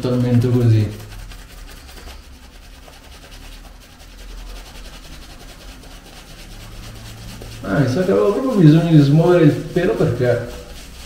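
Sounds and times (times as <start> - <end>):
shaving brush swishing on stubble: 0.0 - 11.0.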